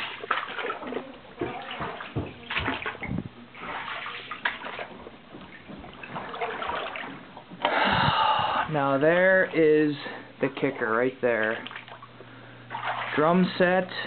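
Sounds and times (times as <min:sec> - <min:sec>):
flood water sloshing and splashing: 0:00.0 - 0:07.7, 0:10.0 - 0:14.0.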